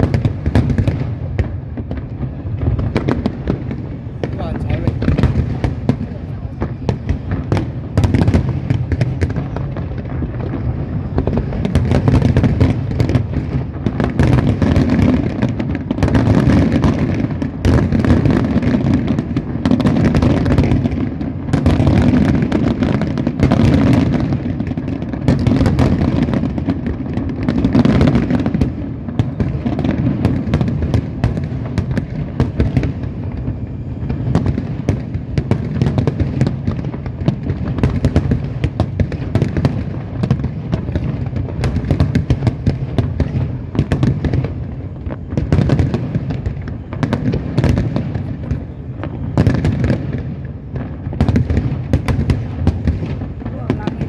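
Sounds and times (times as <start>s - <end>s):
fireworks rapid bangs: 0.0s - 54.0s.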